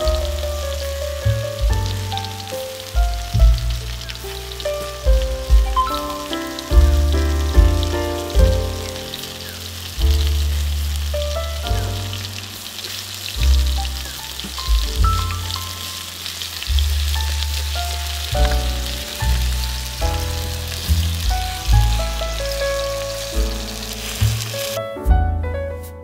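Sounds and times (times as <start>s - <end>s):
vegetables sizzling in a pan: 0.0s - 24.8s
music with strong bass: 0.0s - 26.0s.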